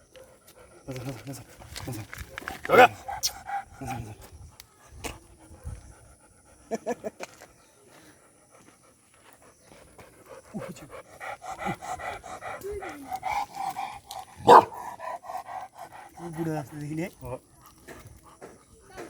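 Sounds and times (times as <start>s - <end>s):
dog panting: 0.1s - 19.0s.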